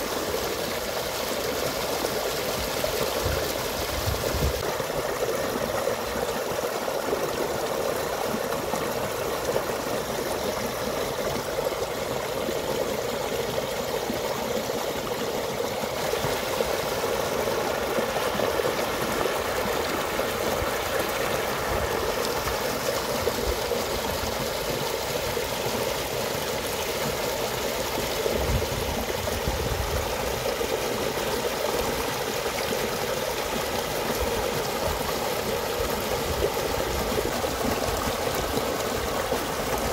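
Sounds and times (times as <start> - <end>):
stream rushing over small drops: 0.0 - 39.9.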